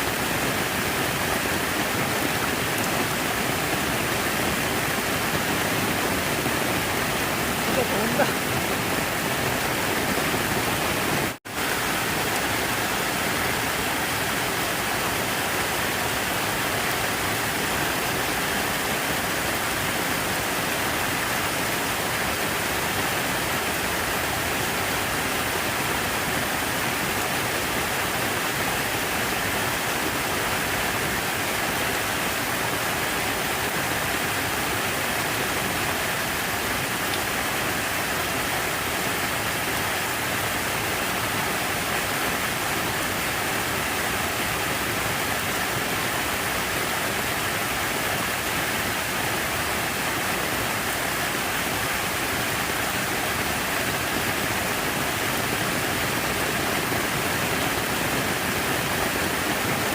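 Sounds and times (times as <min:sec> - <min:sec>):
falling water splashing: 0:00.0 - 0:59.9.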